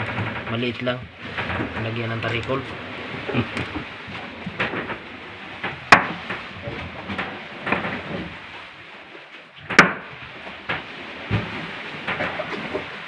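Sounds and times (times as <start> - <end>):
sharp knocks: 0.0 - 8.4, 9.6 - 12.8.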